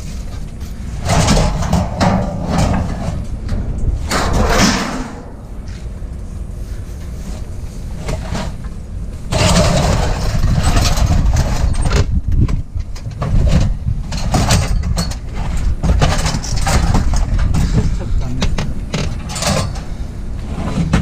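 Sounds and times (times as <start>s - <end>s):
engine running: 0.0s - 21.0s
scrap metal clanking and banging: 0.0s - 21.0s.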